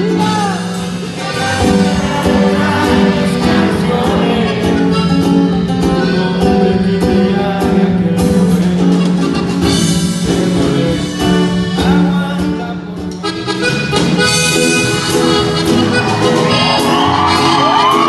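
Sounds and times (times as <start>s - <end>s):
accordion melody: 0.0s - 18.0s
band playing live: 0.0s - 18.0s
steady bass line: 0.0s - 18.0s.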